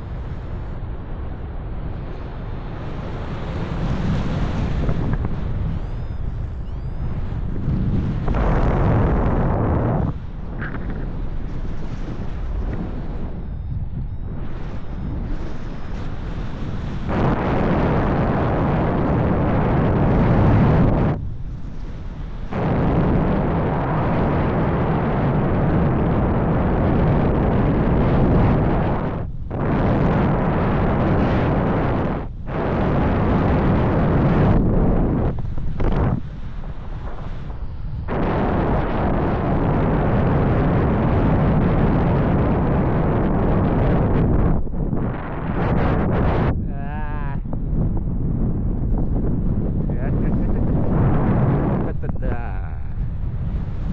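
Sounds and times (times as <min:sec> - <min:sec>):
gusty wind buffeting microphone: 0:00.0 - 0:53.9.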